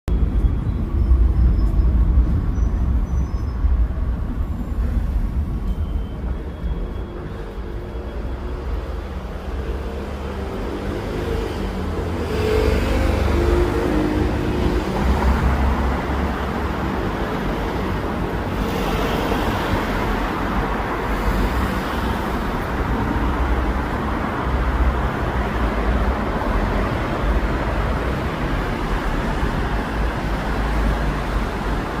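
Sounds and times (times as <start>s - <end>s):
city traffic rumble: 0.1s - 32.0s.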